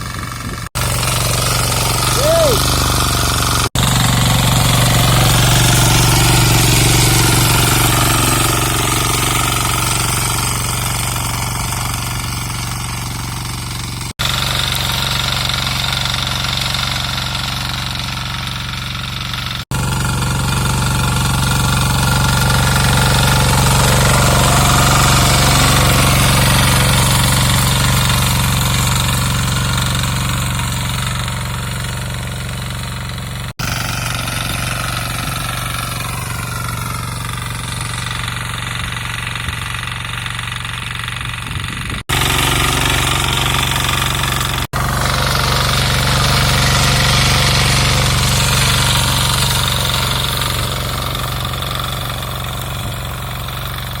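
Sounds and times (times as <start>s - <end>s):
small diesel engine running: 0.0s - 54.0s.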